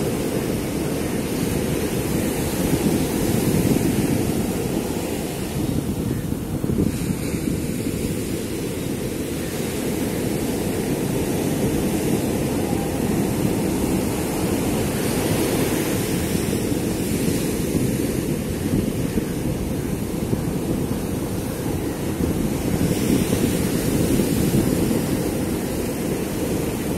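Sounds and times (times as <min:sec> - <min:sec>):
faint sea surf: 0:00.0 - 0:26.9
wind rumbling on microphone: 0:00.0 - 0:26.9.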